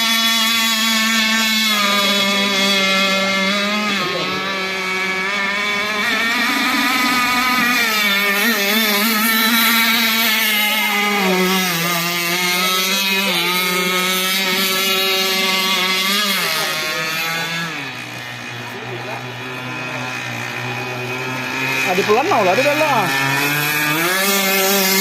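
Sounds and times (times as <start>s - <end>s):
toy boat motor whining: 0.0s - 25.0s.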